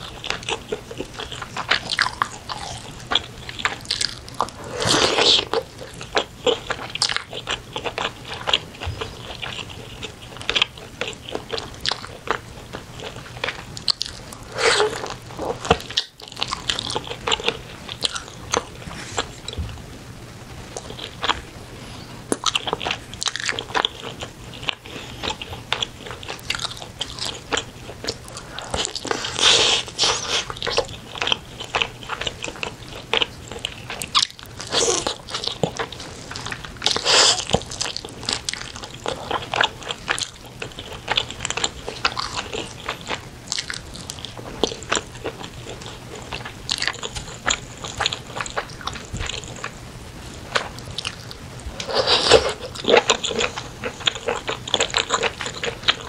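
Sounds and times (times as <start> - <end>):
chewing and smacking: 0.0 - 19.9, 20.6 - 21.5, 22.3 - 56.0.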